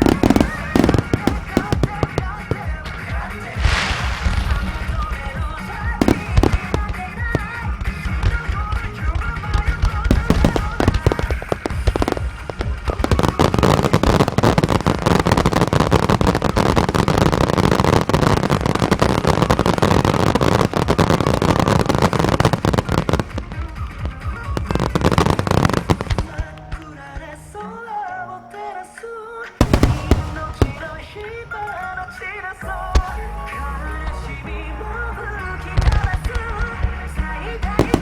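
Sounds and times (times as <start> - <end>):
fireworks booming and crackling: 0.0 - 38.0
music playing: 0.0 - 38.0.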